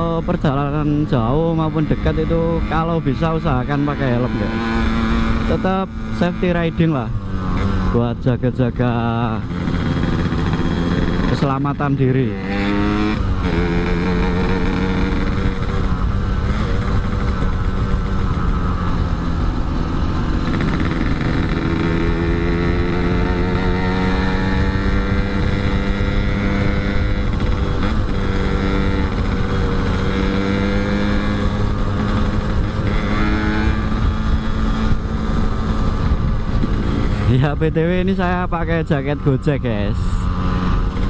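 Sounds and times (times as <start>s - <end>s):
motorcycle two-stroke engine running: 0.0s - 41.0s.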